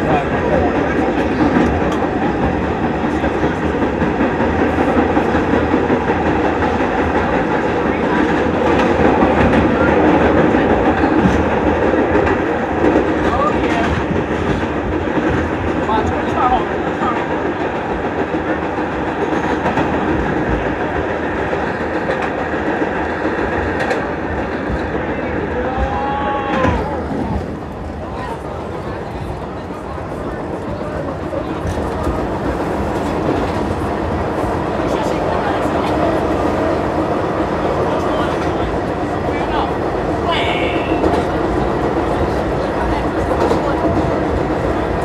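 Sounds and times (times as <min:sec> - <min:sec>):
subway train wheels on rails: 0:00.0 - 0:45.0.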